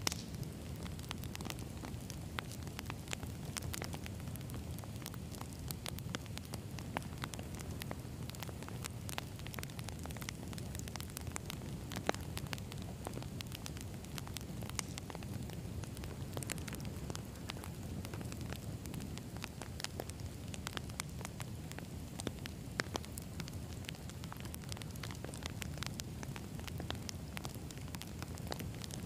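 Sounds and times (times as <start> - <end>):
campfire crackling and popping: 0.0 - 29.0
low rumble of flame: 0.0 - 29.0.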